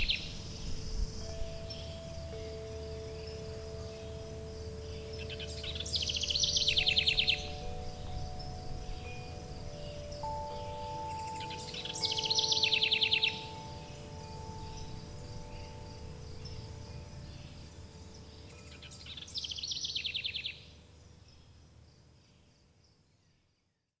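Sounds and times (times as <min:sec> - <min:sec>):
songbird trilling: 0:00.0 - 0:20.7
crickets chirring: 0:00.0 - 0:22.8
faint wind chimes: 0:00.0 - 0:23.0.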